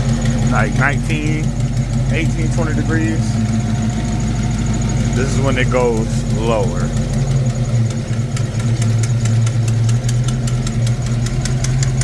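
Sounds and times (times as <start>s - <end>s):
car engine idling: 0.0s - 12.0s
sharp fast engine ticking: 0.0s - 12.0s.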